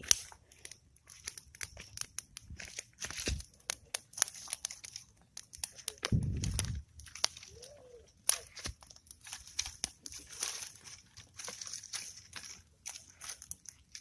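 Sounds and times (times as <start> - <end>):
twigs and leaves snapping: 0.0 - 14.0.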